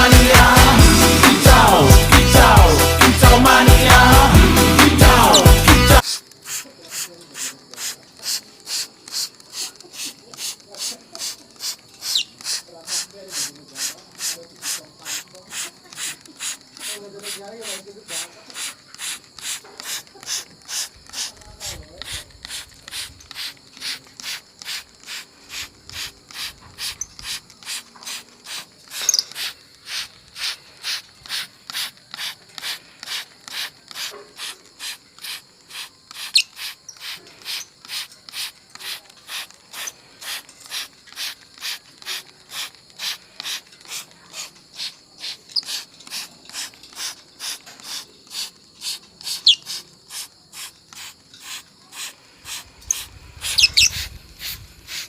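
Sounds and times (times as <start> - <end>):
spray bottle squirts hissing: 0.0 - 55.0.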